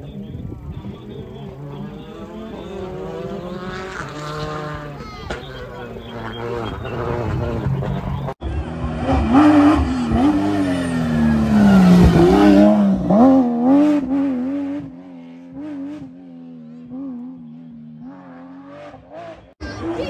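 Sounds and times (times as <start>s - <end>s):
rally car engine at full throttle: 0.0s - 20.0s.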